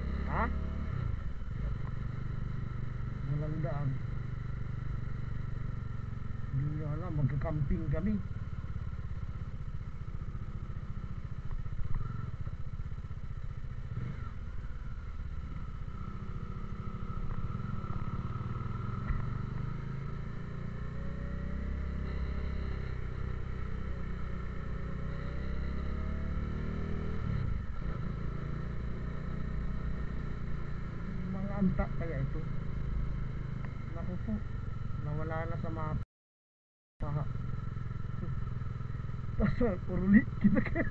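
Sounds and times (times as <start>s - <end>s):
motorcycle engine running: 0.0s - 36.0s, 37.0s - 40.9s.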